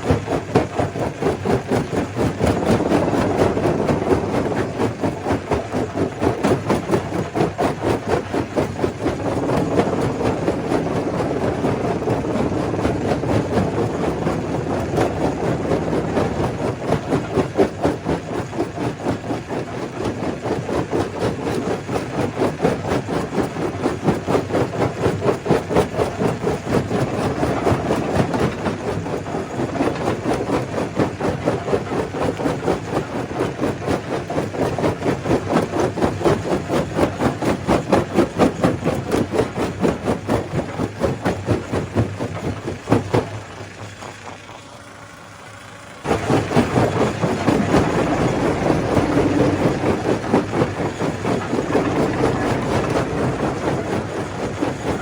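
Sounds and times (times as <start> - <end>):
stone crusher pounding: 0.0 - 43.6, 46.0 - 55.0.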